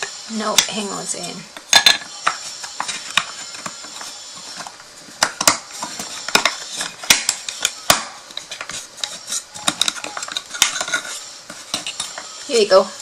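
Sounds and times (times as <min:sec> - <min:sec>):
wooden pieces clicking and knocking: 0:01.6 - 0:12.3.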